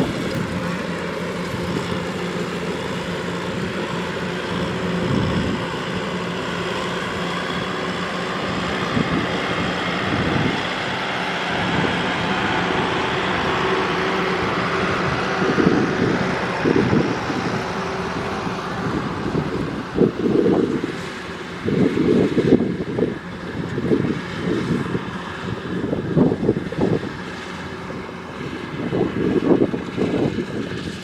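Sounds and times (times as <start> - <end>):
combine harvester droning: 0.0 - 31.0
low buffeting bursts: 0.0 - 31.0.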